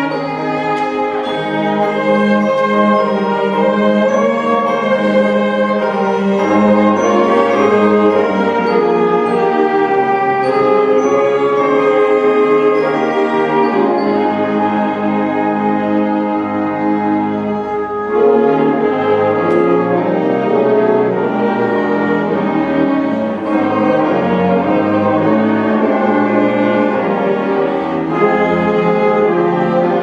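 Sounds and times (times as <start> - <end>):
orchestra playing slow piece: 0.0 - 30.0.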